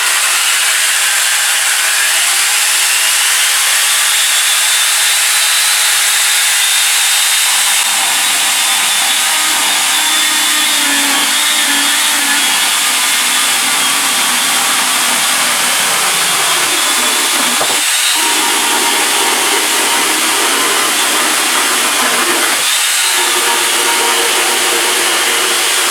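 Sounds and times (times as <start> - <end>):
angle grinder motor whine: 0.0 - 25.9.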